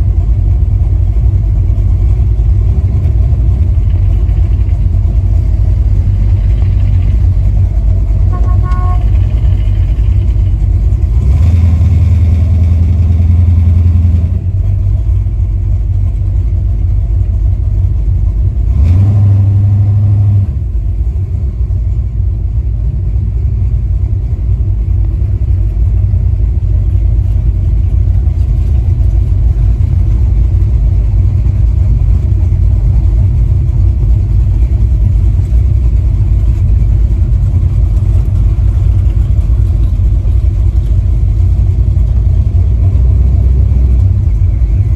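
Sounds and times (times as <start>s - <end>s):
pickup truck engine droning: 0.0s - 44.9s.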